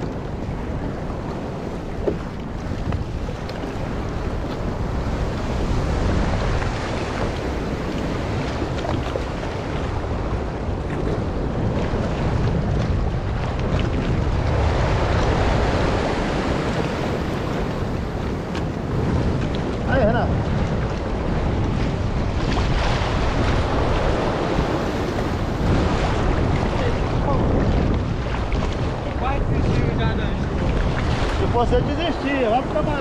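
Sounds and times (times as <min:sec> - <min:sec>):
waves and surf: 0:00.0 - 0:33.0
wind buffeting microphone: 0:00.0 - 0:33.0.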